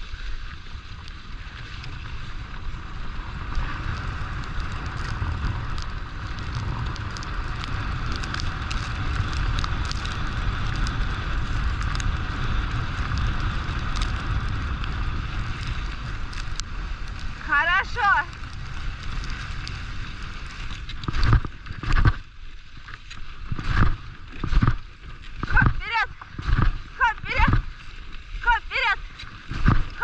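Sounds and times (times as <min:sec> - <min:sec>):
wind rushing over microphone: 0:00.0 - 0:22.4, 0:23.4 - 0:30.0.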